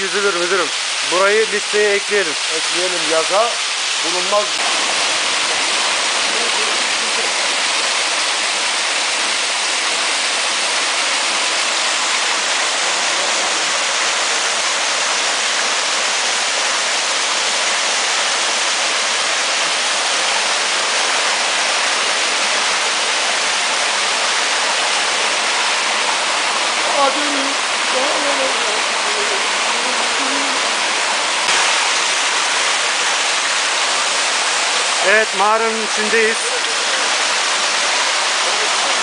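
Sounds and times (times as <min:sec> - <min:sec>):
waterfall rushing over rocks: 0:00.0 - 0:39.0.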